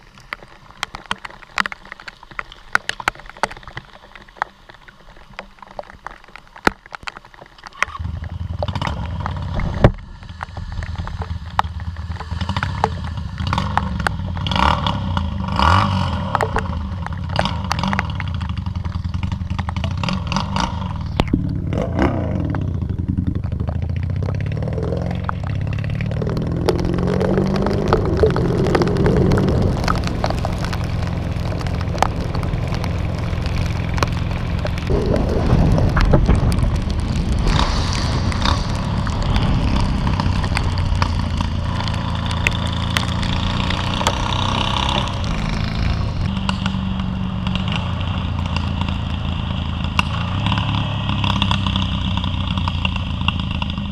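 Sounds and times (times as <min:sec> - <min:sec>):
road and wind noise: 0:00.0 - 0:53.9
vehicle engine accelerating: 0:08.0 - 0:53.9.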